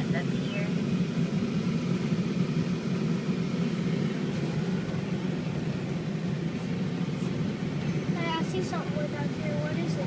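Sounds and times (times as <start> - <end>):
truck engine and tyre noise: 0.0 - 10.0.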